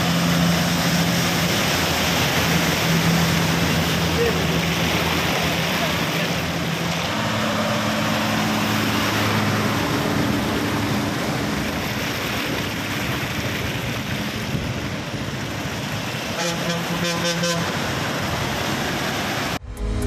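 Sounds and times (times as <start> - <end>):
truck engines humming: 0.0 - 20.0
water splashing from wheels: 0.0 - 20.0.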